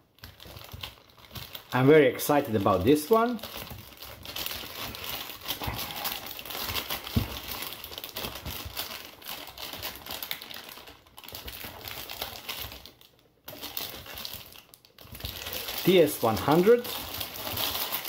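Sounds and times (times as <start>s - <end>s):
plastic mailer bag crinkling: 0.1s - 18.0s.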